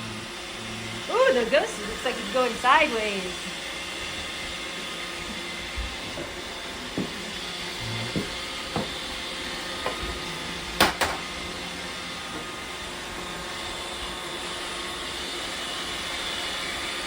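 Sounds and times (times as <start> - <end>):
robot vacuum whirring hum: 0.0 - 17.0.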